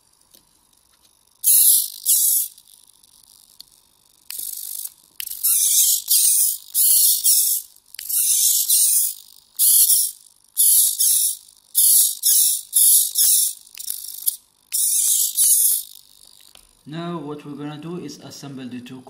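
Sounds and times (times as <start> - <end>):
servo motors whirring: 0.3 - 16.6.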